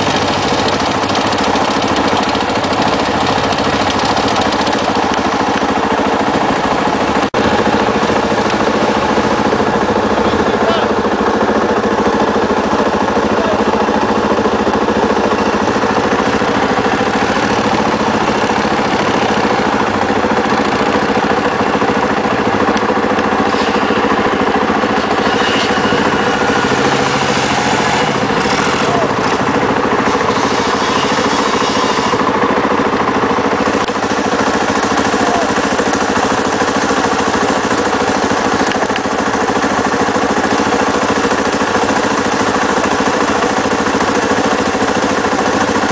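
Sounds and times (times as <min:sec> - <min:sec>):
quad bike engines running: 0:00.0 - 0:45.9
wheels churning in mud: 0:00.0 - 0:45.9.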